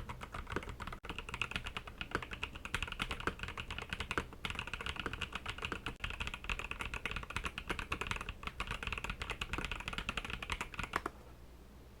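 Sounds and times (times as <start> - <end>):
mechanical keyboard typing: 0.0 - 11.1.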